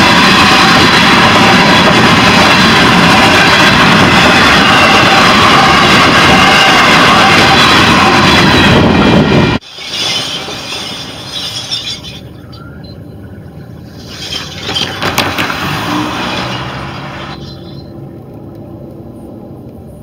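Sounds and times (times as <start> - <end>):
distant locomotive rumble: 0.0 - 20.0
train wheels rumbling on rails: 0.0 - 20.0.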